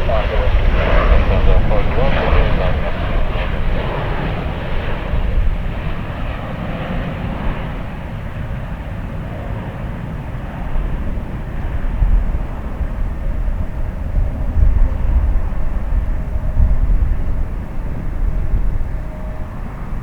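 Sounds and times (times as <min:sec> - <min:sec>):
jet airliner engines rumbling: 0:00.0 - 0:20.0.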